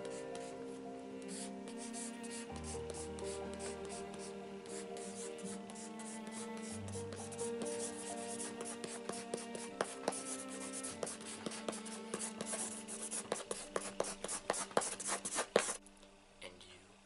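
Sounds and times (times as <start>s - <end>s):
pencil scribbling on paper: 0.0s - 0.6s, 1.2s - 15.8s
music of long held notes: 0.0s - 15.1s.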